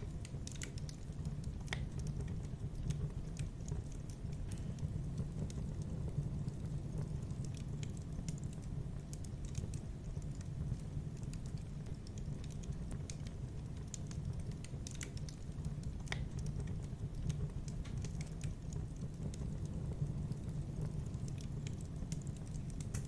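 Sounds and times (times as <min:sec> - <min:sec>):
low rumble of burning: 0:00.0 - 0:23.0
wood fire pops and snaps: 0:00.0 - 0:23.0.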